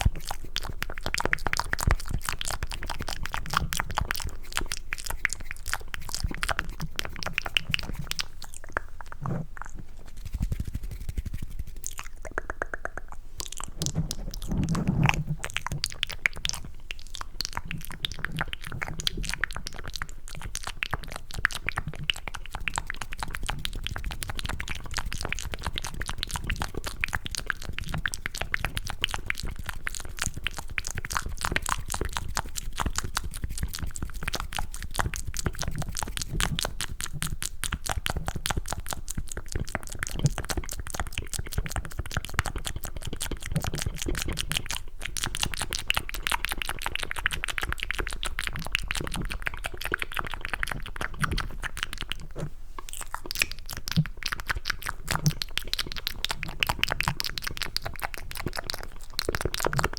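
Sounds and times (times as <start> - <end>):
wet tongue and lip clicks: 0.0 - 59.9.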